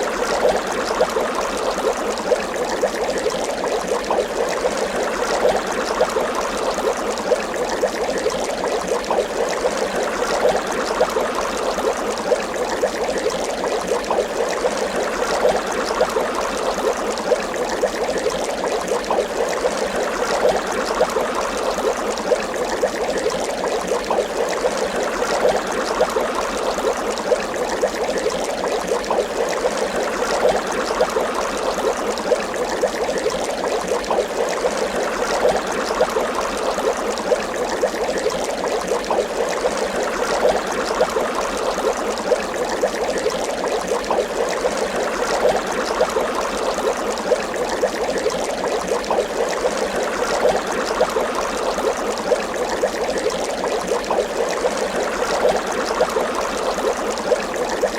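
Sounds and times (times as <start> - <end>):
water bubbling: 0.0 - 57.9.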